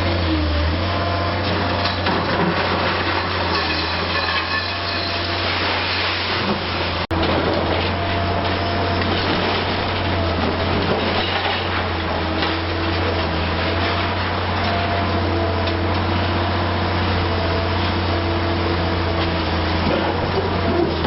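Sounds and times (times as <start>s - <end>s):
excavator engine hum: 0.0s - 21.0s.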